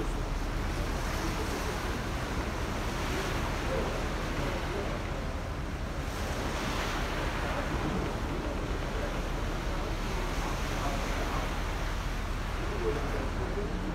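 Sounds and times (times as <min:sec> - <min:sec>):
sea waves rushing: 0:00.0 - 0:13.9.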